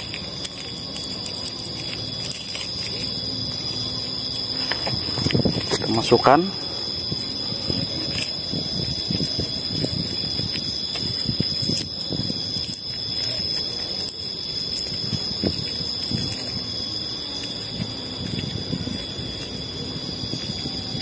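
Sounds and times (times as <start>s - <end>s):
steady high-pitched whine: 0.0s - 21.0s.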